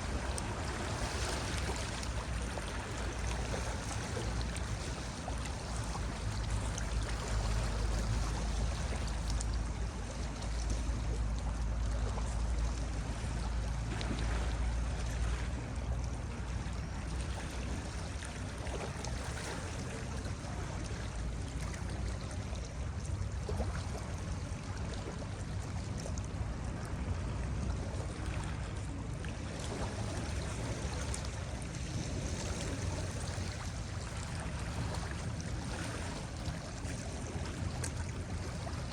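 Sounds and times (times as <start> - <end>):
deep rumble of surf: 0.0 - 38.9.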